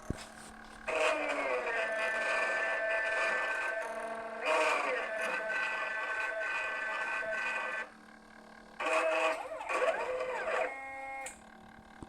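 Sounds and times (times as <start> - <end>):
stepper motors whining: 0.9 - 8.0, 8.8 - 11.4.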